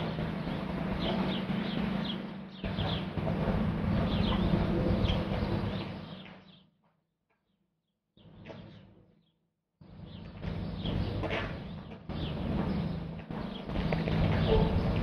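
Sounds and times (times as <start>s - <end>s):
birds chirping: 0.0s - 6.8s, 8.2s - 15.0s.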